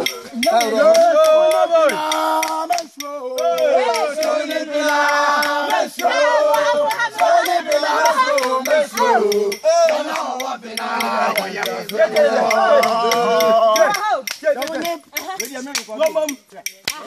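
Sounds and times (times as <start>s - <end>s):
group singing in unison: 0.0s - 14.1s
sharp claps: 0.0s - 17.0s.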